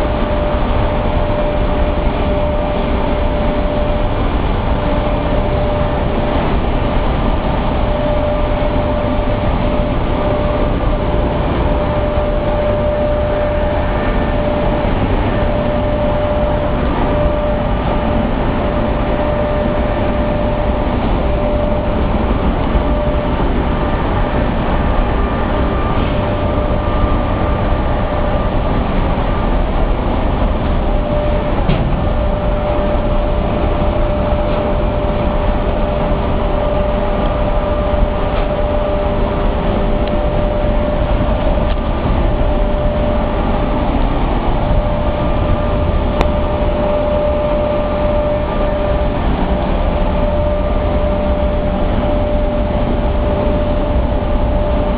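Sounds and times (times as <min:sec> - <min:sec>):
pumps and motors droning: 0:00.0 - 0:54.9.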